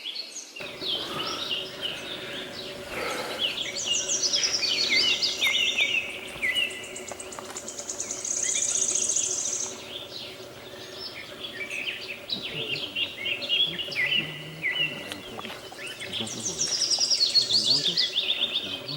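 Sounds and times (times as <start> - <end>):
wild birds chirping: 0.0 - 18.9
faint low drone: 0.6 - 18.9
fast high bird trill: 0.6 - 18.9.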